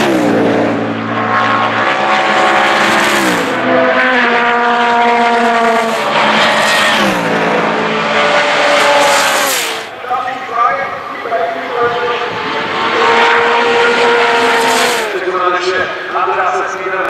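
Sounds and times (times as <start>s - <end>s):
race cars passing: 0.0s - 17.0s.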